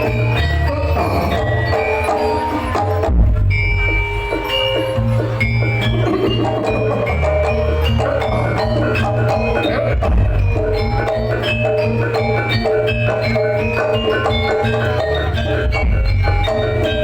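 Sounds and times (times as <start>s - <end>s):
metallophones ringing a melody: 0.0s - 17.0s
steady low bass: 2.6s - 17.0s.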